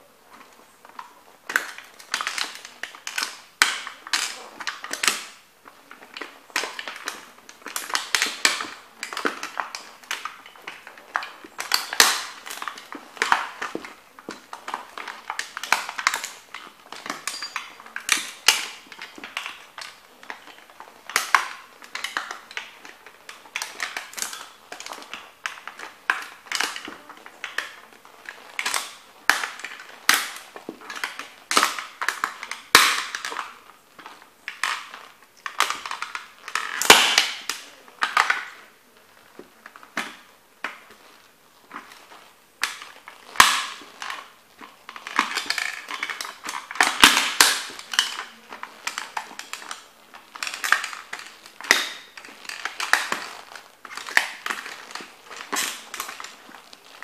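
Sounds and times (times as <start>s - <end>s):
toy car crunching under boots: 0.0s - 57.0s.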